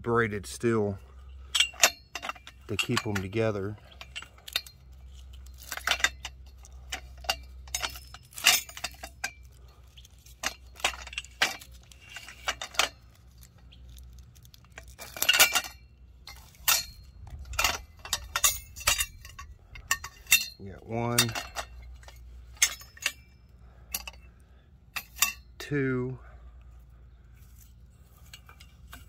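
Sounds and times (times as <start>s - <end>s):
metal tent poles clanking: 0.0s - 29.0s.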